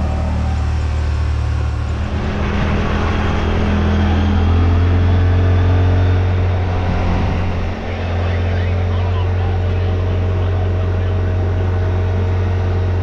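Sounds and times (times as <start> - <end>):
tyre and road noise: 0.0 - 11.2
utility vehicle engine running: 0.0 - 13.0.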